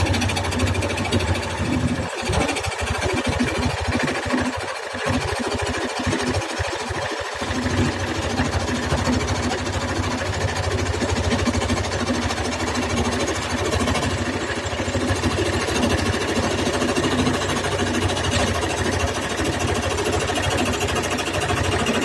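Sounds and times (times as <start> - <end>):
electric jigsaw cutting wood: 0.0 - 22.0.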